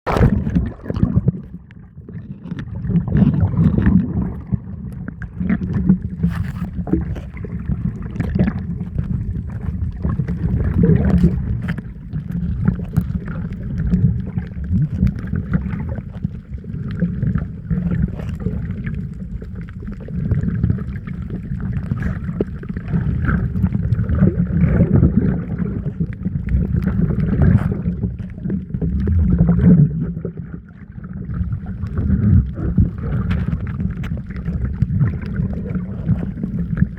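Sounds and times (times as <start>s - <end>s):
sea water rushing and sloshing: 0.0s - 36.9s.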